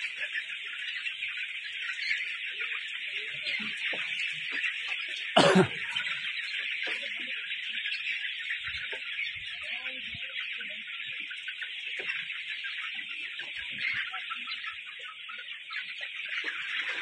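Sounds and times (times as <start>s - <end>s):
chicks peeping and chirping: 0.0s - 17.0s.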